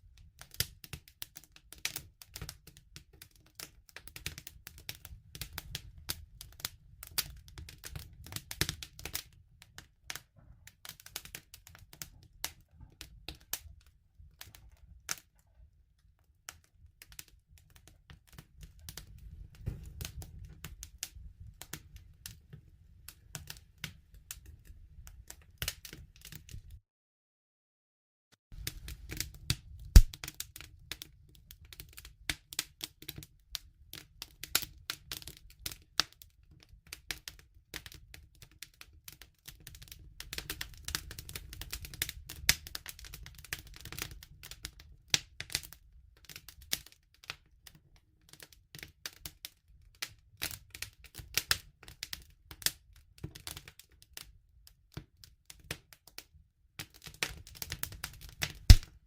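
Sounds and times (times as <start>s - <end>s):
wood fire crackling: 0.0s - 26.8s, 28.6s - 47.4s, 56.8s - 59.0s.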